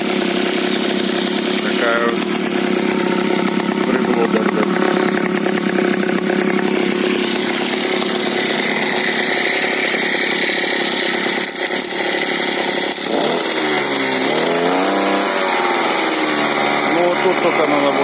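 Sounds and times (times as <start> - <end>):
outboard boat motor running: 0.0 - 18.0.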